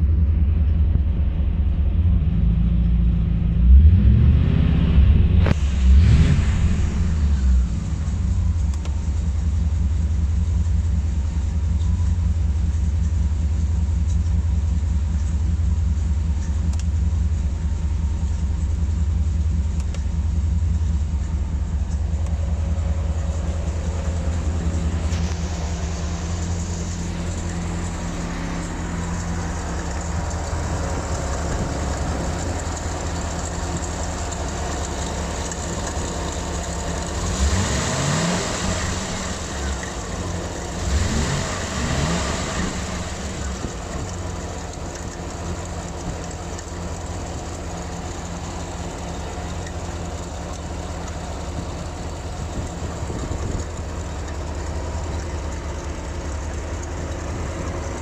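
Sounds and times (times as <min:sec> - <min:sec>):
car engine deep rumble: 0:00.0 - 0:58.0.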